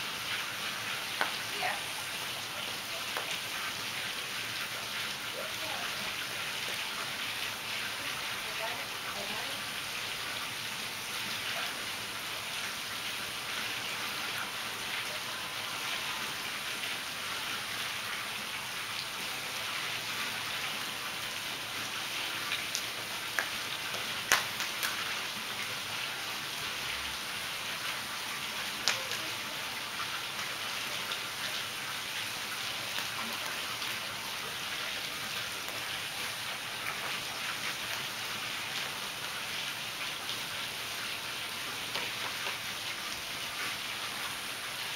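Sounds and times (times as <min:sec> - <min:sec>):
pool water splashing: 0:00.0 - 0:44.9.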